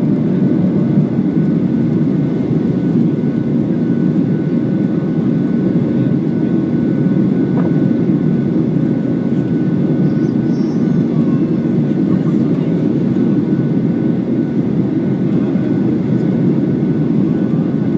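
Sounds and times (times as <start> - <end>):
jet engine roar in cabin: 0.0 - 17.9.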